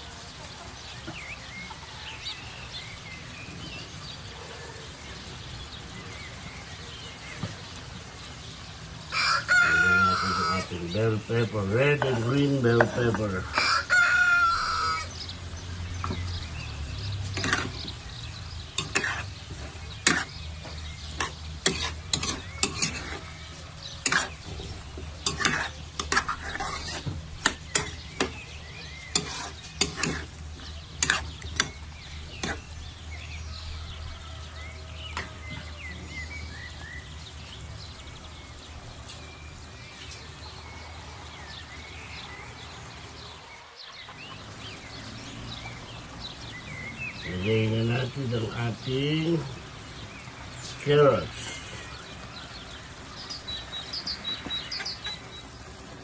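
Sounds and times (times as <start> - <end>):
food sizzling: 0.0 - 47.4, 48.3 - 56.0.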